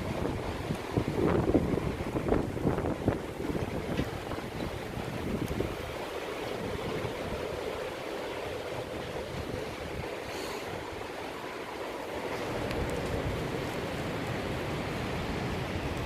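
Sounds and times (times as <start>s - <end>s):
storm wind blowing: 0.0s - 16.0s
wind gusts buffeting microphone: 0.0s - 16.0s.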